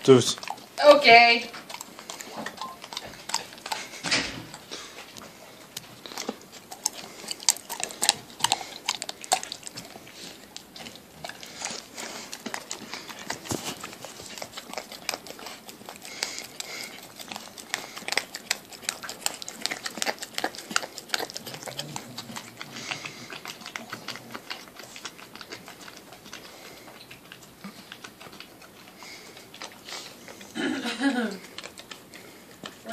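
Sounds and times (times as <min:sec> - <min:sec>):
dog licking and smacking: 0:00.0 - 0:32.9.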